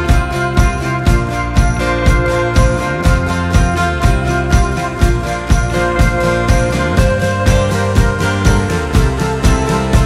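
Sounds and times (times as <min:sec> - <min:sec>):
music with jingle bells: 0:00.0 - 0:10.0.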